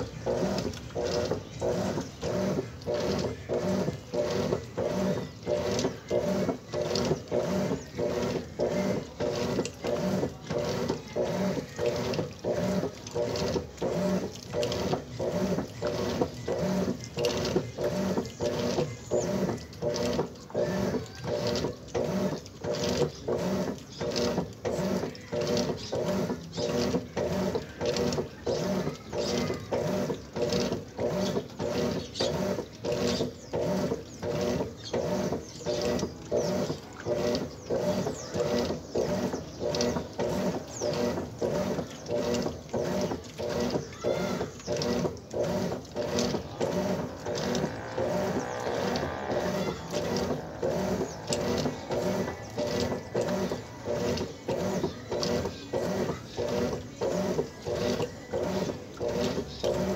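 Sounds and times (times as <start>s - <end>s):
washing machine agitating: 0.0s - 59.9s.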